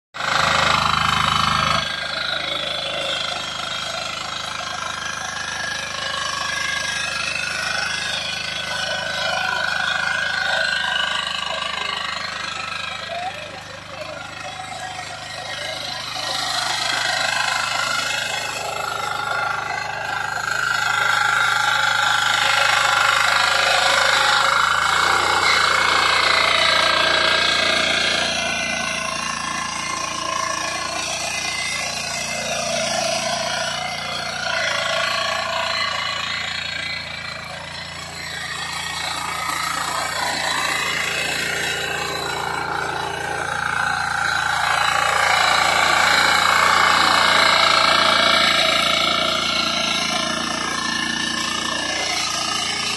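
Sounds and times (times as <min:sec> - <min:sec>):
power tiller engine running: 0:00.1 - 0:52.9
tines churning soil: 0:00.2 - 0:52.9.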